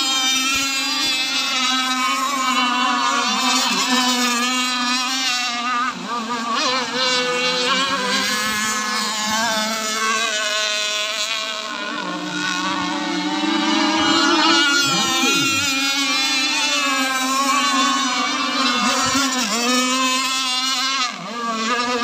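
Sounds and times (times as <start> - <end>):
model powerboat engines buzzing: 0.0 - 22.0.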